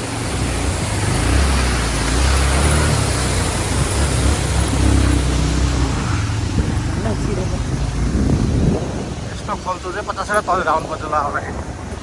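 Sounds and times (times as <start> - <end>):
road and wind noise: 0.0 - 12.0
vehicle engine running: 0.0 - 12.0.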